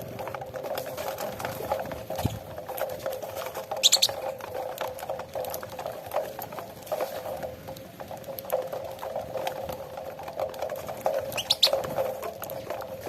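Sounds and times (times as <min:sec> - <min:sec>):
birds pecking and scuffling: 0:00.0 - 0:13.0.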